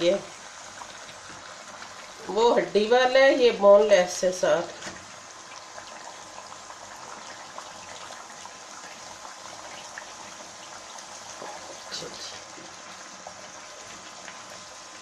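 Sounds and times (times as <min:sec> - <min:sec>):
chicken sizzling in frying pan: 0:00.0 - 0:15.0.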